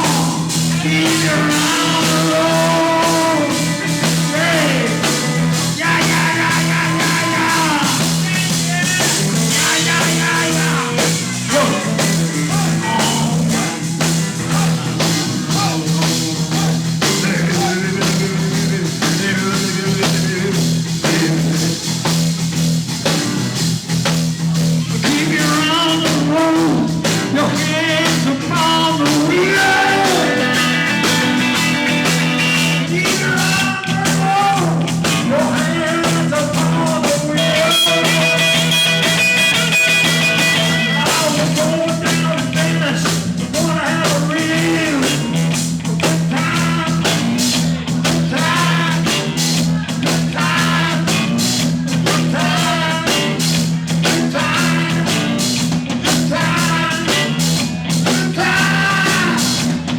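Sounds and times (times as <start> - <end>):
lead guitar line: 0.0 - 21.9, 22.9 - 59.9
bass and drum groove: 0.0 - 59.9.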